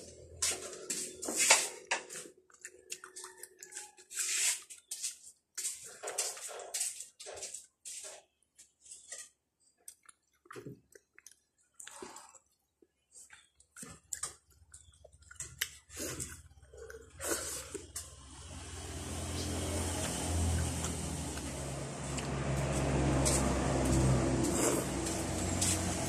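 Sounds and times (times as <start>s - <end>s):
wet chewing and lip smacks: 0.5s - 6.5s, 9.1s - 26.0s.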